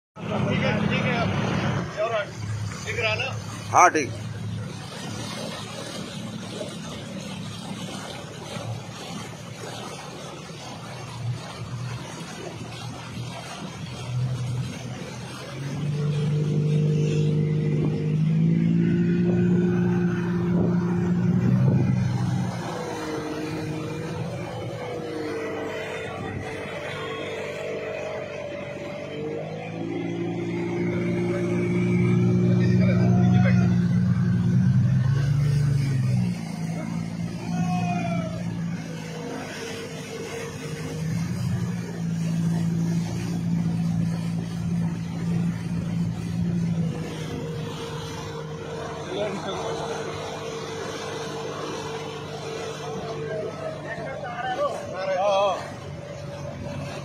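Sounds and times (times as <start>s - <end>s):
motorboat engine running: 0.2s - 57.0s
water washing: 0.2s - 57.0s.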